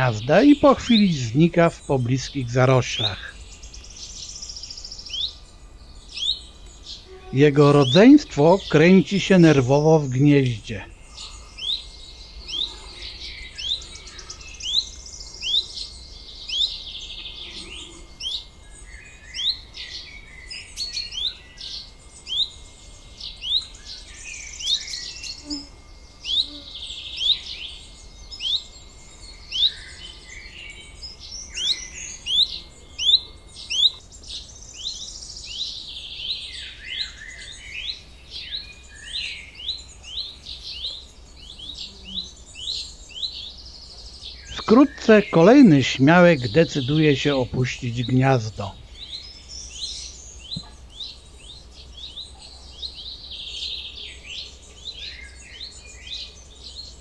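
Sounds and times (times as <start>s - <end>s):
birds singing in background: 0.0s - 57.0s
songbirds chirping: 0.0s - 57.0s.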